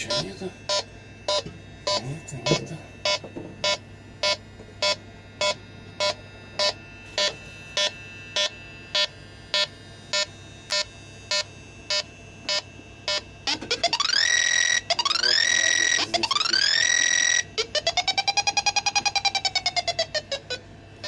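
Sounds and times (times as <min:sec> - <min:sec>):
continuous alarm tone: 0:00.0 - 0:21.0
leak detector beeping: 0:00.0 - 0:21.0.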